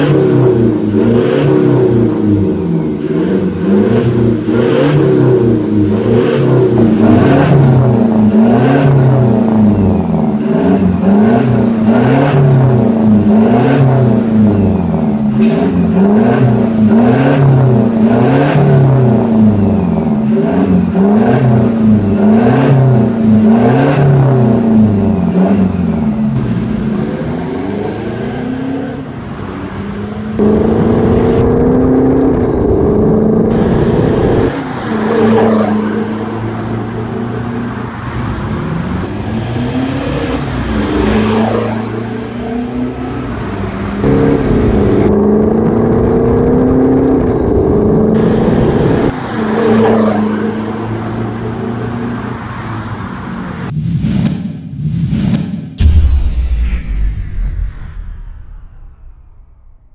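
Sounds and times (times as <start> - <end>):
diesel engine revving: 0.0 - 53.7
truck accelerating: 0.0 - 53.7.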